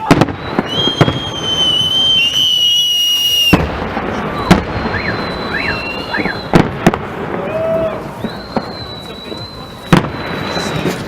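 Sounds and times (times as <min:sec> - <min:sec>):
high whistling tones: 0:00.0 - 0:03.7, 0:04.3 - 0:06.7, 0:08.1 - 0:11.0
firework shells bursting: 0:00.0 - 0:11.0.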